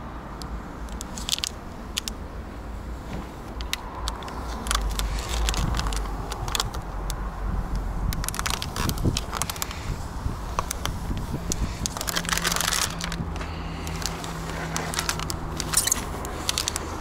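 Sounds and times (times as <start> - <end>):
transfer tape crackling: 0.4 - 2.3, 3.4 - 17.0.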